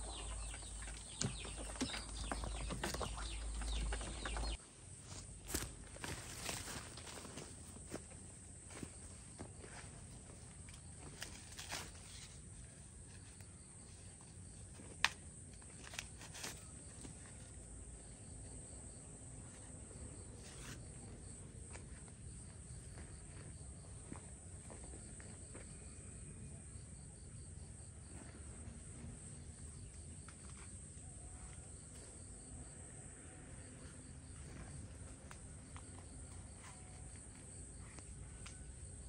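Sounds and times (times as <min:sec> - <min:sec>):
cricket chirping: 0:00.0 - 0:39.0
insects droning: 0:00.0 - 0:39.0.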